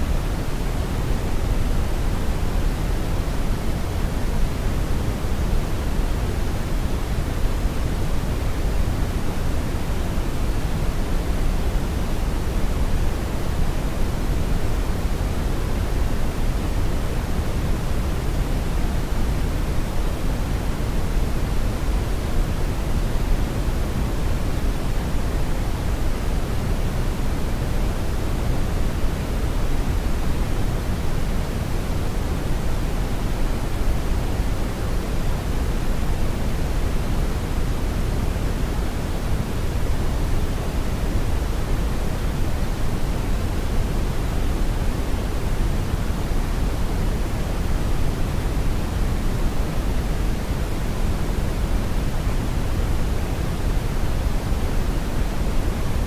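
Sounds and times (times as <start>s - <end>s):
brown noise rushing hiss: 0.0s - 56.0s.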